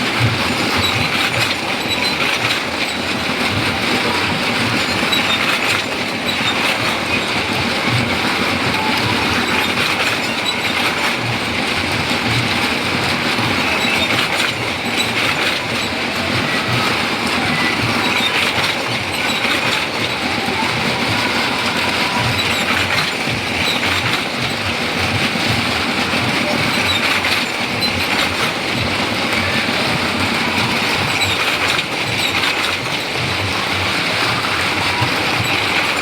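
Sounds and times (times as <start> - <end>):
motorcycle engines roaring: 3.2 - 36.0.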